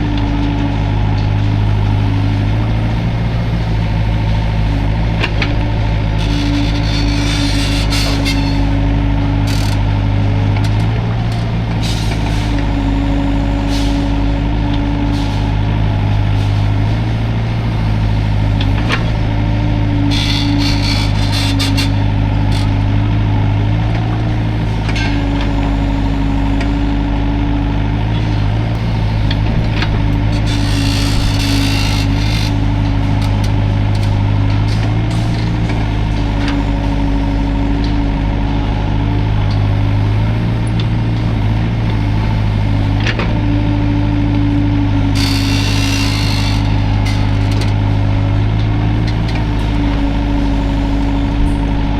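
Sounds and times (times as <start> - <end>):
excavator diesel engine: 0.0 - 51.9.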